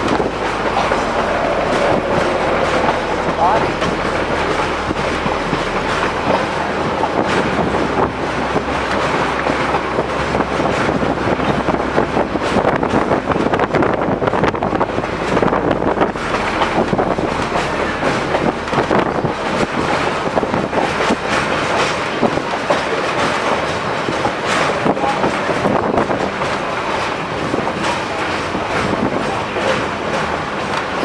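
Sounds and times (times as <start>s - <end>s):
train car rumbling and rattling: 0.0s - 31.0s
wheels clicking over rail joints: 0.0s - 31.0s.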